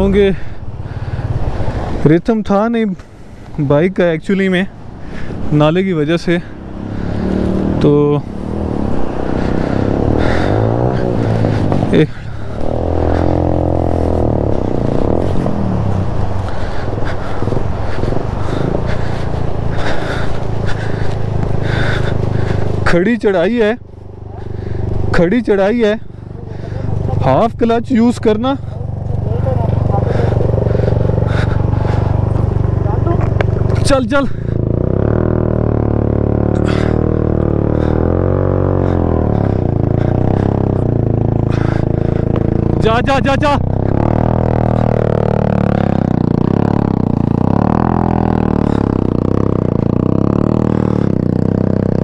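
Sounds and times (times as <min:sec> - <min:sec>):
motorcycle engine at low revs: 0:00.0 - 0:52.0.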